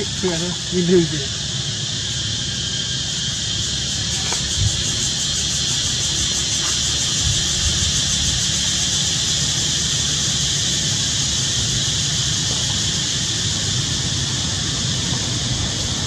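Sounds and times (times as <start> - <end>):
insect chorus droning: 0.0 - 16.0.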